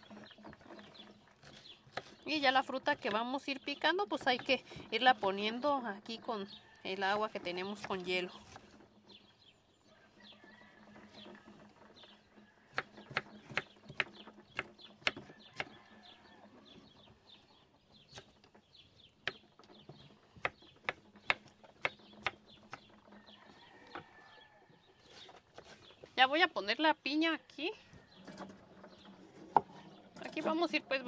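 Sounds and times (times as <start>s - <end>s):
birds chirping faintly: 0.0s - 31.0s.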